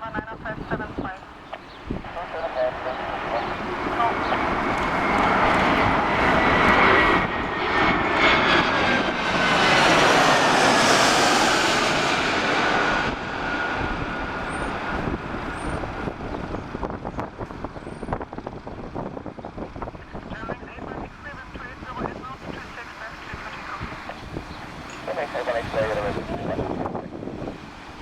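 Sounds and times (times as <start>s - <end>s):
airliner engines passing: 0.0s - 28.0s.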